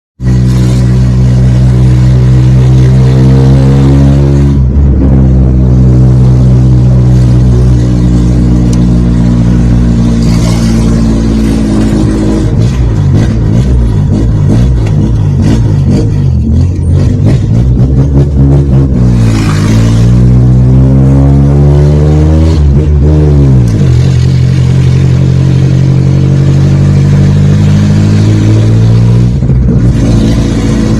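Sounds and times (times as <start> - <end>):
loud car engine exhaust: 0.2 - 30.9.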